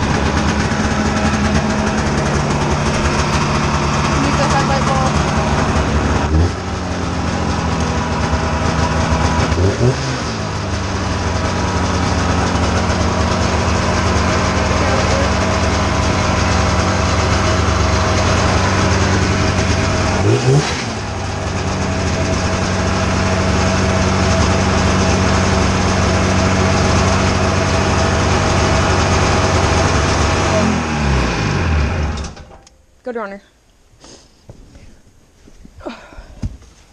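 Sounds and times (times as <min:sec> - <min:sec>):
snowmobile engine idling: 0:00.0 - 0:32.3.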